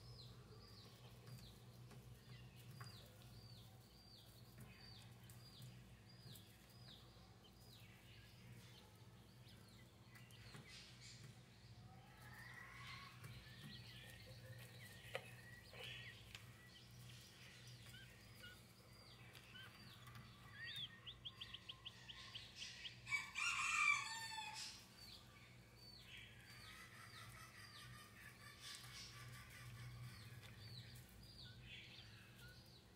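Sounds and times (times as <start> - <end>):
chicks peeping faintly: 0.0 - 32.9.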